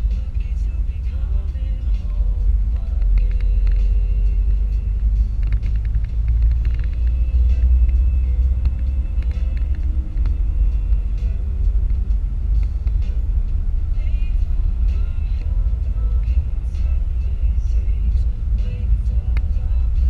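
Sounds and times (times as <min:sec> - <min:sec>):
road and wind noise in car: 0:00.0 - 0:20.0.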